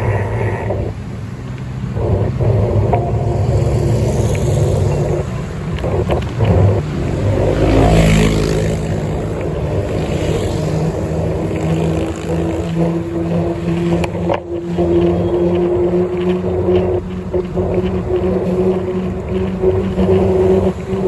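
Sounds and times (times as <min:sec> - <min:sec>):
road and wind rumble: 0:00.0 - 0:21.0
vehicle engine running: 0:00.0 - 0:21.0.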